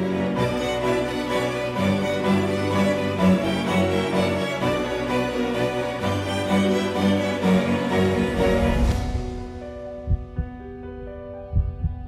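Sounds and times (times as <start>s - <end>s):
soundtrack music with sustained notes: 0.0s - 12.0s.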